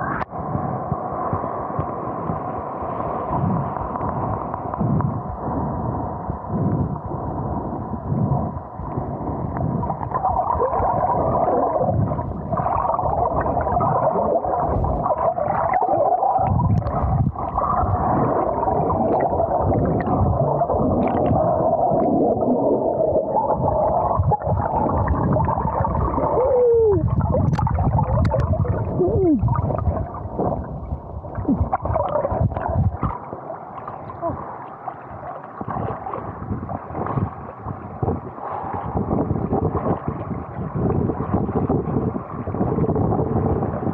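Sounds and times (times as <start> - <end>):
muffled water gurgling and sloshing: 0.0 - 43.9.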